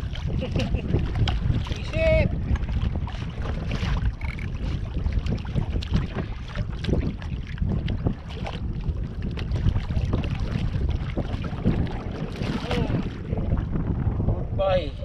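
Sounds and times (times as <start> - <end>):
water splashing: 0.0 - 13.8
wind buffeting microphone: 0.0 - 15.0.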